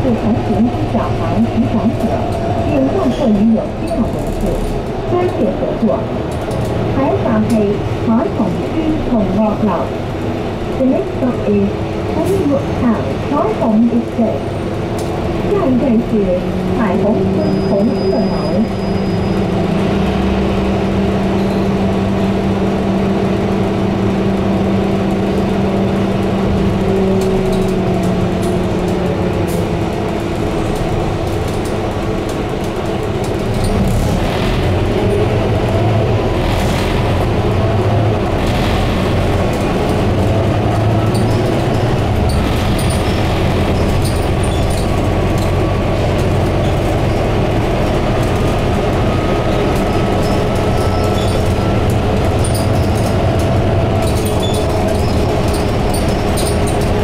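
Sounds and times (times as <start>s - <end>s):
bus diesel engine accelerating: 0.0s - 57.0s.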